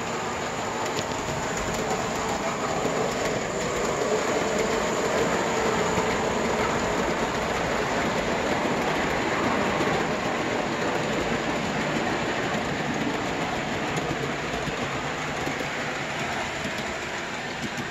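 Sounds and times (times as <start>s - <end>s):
model train wheels rolling on rails: 0.0s - 17.9s.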